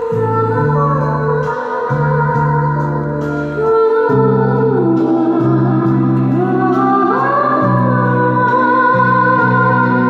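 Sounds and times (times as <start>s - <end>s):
slow gliding melody: 0.0s - 10.0s.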